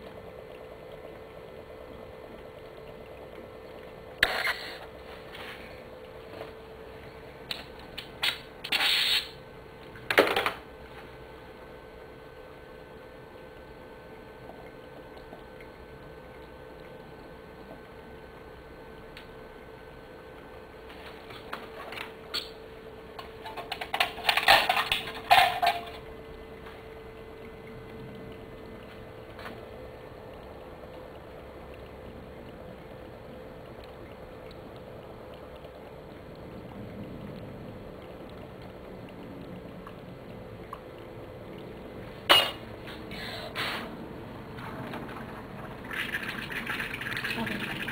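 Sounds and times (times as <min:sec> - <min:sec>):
faint hum: 0:00.0 - 0:47.9
liquid bubbling and hiss: 0:00.0 - 0:47.9.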